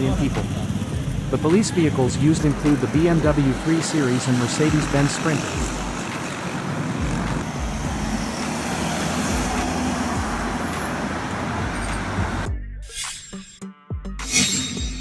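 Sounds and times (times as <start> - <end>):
road traffic rush: 0.0 - 12.5.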